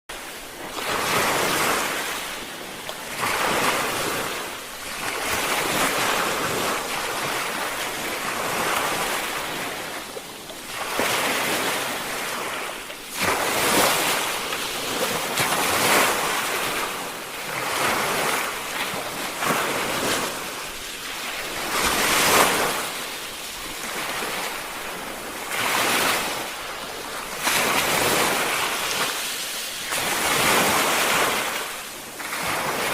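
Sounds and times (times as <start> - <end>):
ocean waves breaking: 0.1 - 32.9.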